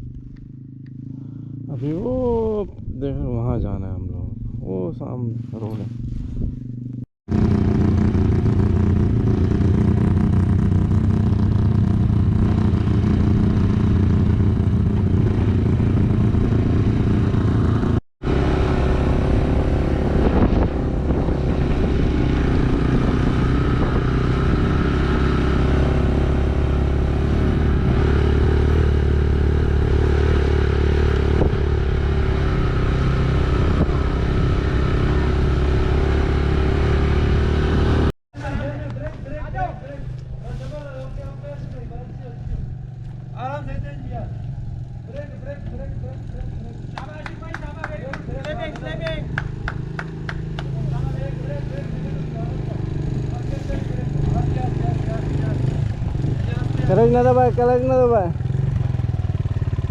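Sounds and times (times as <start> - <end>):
motorcycle engine running: 0.0 - 4.8, 5.6 - 59.9
road and wind noise: 0.0 - 59.9.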